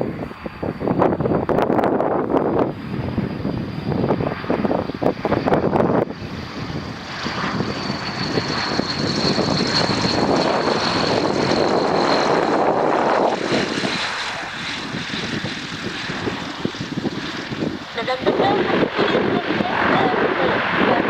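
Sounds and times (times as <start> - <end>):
propeller rush: 0.0 - 21.0
turboprop engine whine: 0.0 - 21.0.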